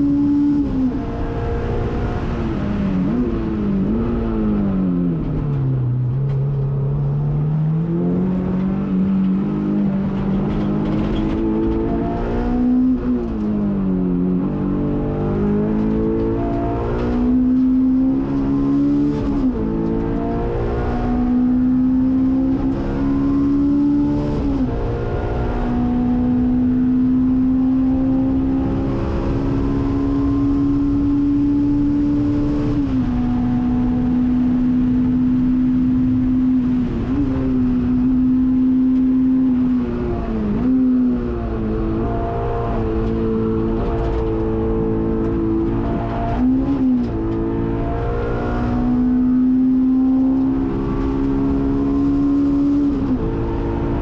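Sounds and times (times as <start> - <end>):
car engine revving with upshifts: 0.0 - 54.0.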